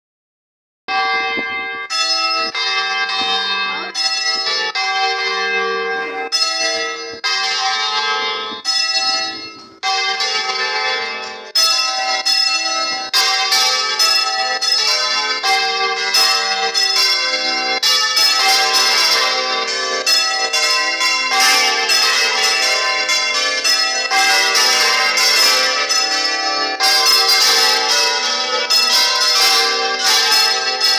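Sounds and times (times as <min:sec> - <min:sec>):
church bells ringing: 0:00.9 - 0:30.9.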